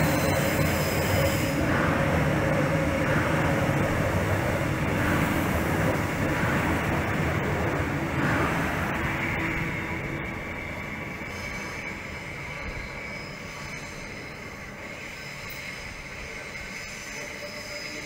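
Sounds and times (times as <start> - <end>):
electric train rumbling past: 0.0 - 18.0.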